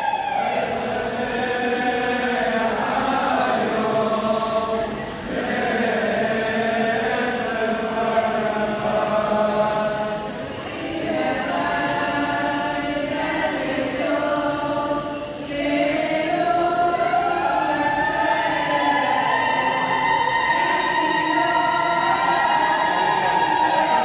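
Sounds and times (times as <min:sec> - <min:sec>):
women's choir singing a hymn: 0:00.0 - 0:24.0.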